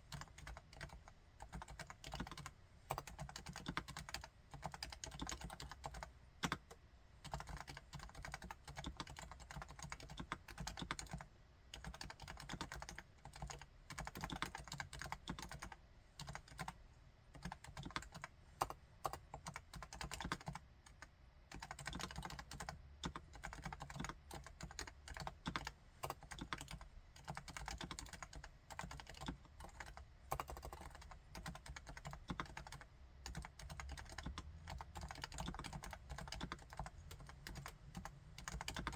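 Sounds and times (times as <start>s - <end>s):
soft keyboard typing: 0.0s - 38.9s.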